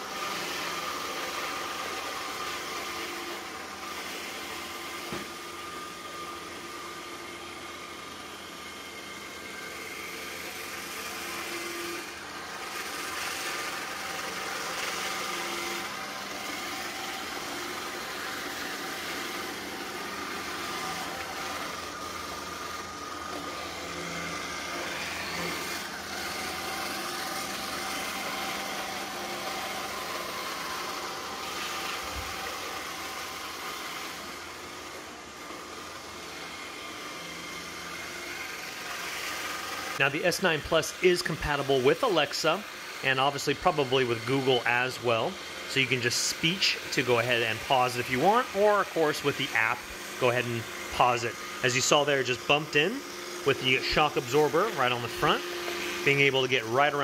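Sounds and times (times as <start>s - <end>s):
robot vacuum running: 0.0s - 57.0s.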